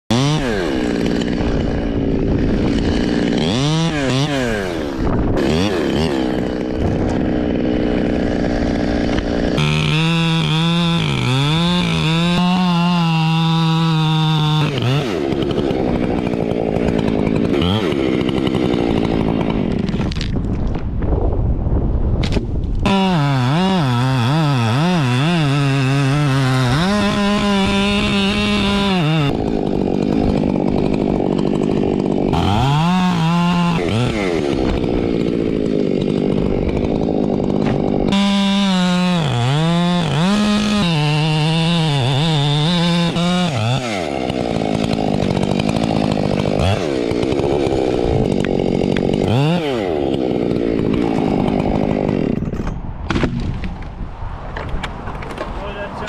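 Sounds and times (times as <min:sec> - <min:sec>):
chainsaw cutting wood: 0:00.1 - 0:21.0, 0:22.2 - 0:56.0.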